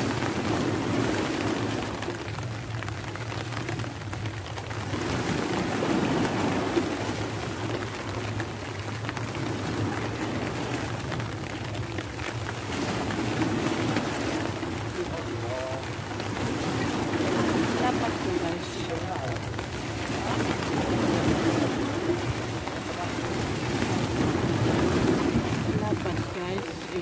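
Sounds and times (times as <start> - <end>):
constant low rumble: 0.0 - 27.0
steady rain falling: 0.0 - 27.0.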